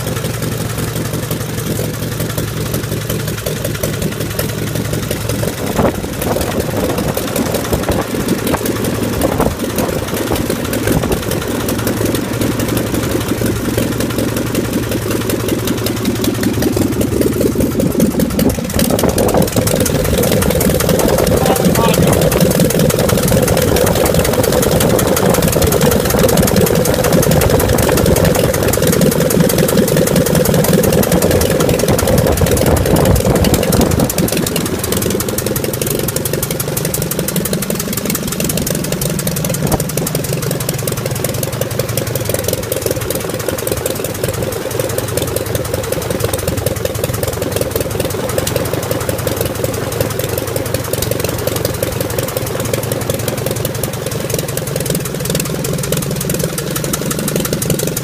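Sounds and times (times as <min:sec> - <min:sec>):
aircraft piston engine running: 0:00.0 - 0:58.0.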